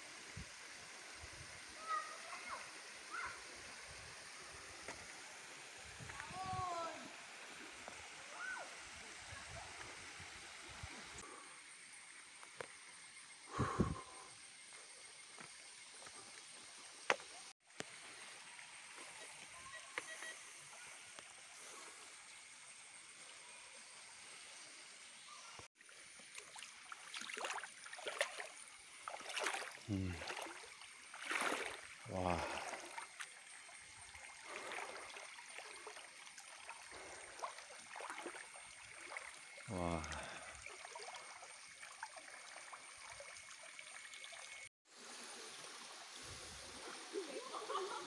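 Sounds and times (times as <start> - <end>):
running water: 0.0 - 24.7, 25.3 - 48.0.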